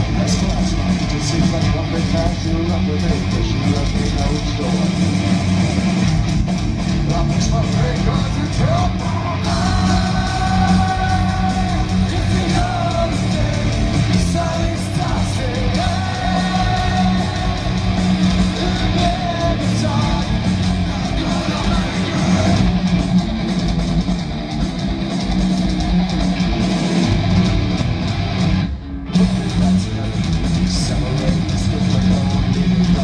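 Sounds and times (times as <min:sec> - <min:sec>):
heavy metal band playing: 0:00.0 - 0:33.0.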